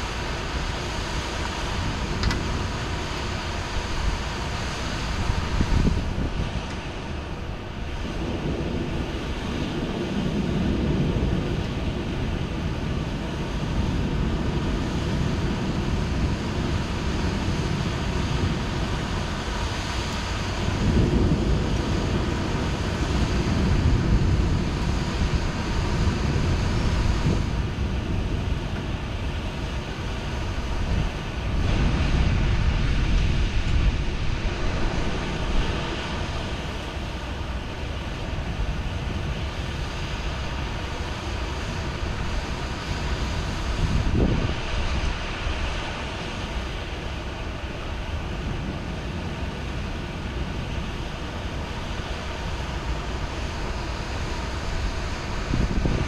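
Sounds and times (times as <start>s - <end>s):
heavy rain: 0.0s - 56.0s
low rolling thunder: 0.0s - 56.0s.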